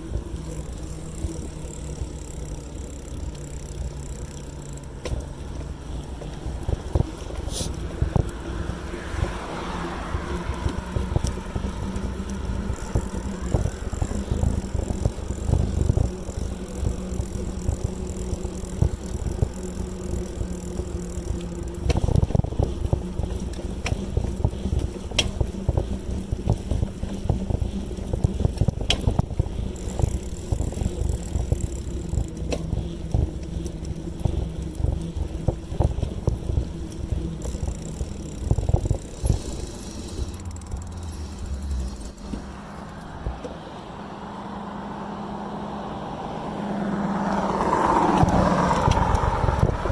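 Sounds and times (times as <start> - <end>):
bicycle clicks and rattles: 0.0 - 43.1, 47.2 - 49.9
bicycle tyres rumbling on road: 0.0 - 49.9.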